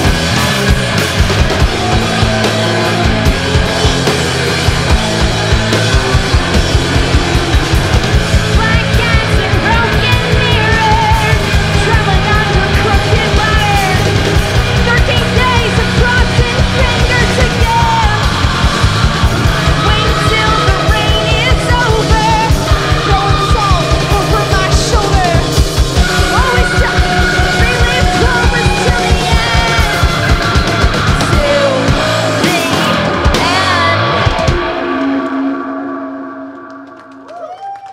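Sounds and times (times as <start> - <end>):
yelled vocals: 0.0 - 35.1
live rock band playing: 0.0 - 37.3.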